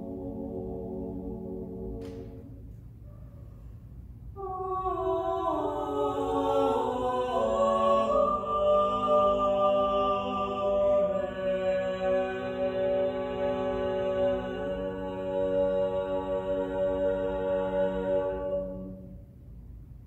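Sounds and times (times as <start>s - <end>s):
vocal ensemble singing a cappella: 0.0s - 2.5s, 4.4s - 19.2s.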